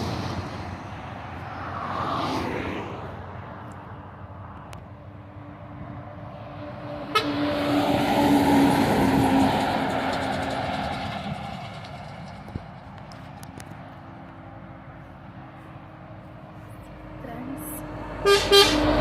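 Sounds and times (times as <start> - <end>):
low engine hum: 0.0 - 19.0
trucks passing: 0.0 - 19.0.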